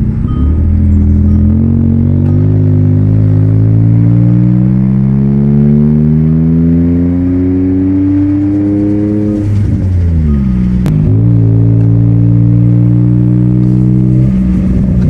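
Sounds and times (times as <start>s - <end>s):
car exhaust drone inside cabin: 0.0s - 15.0s.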